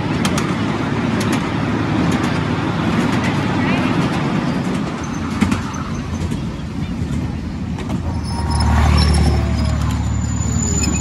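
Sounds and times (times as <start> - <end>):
miniature train rumbling on track: 0.0 - 11.0.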